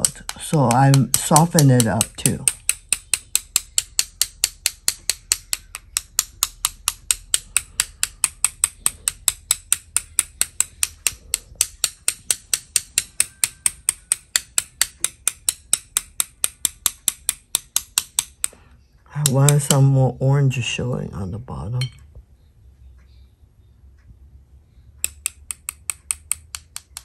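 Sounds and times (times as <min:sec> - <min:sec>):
paintbrush tapping: 0:00.0 - 0:20.2, 0:25.0 - 0:27.0.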